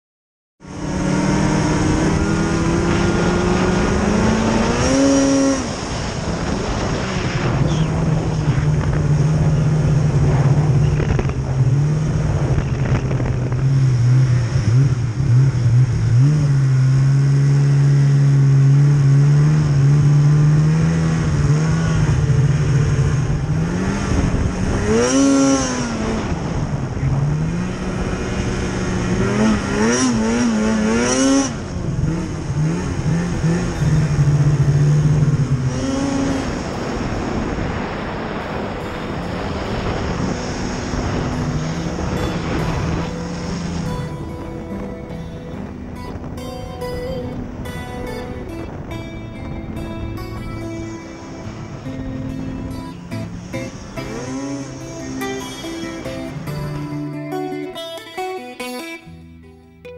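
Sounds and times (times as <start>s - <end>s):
snowmobile engine revving: 0.6s - 57.2s.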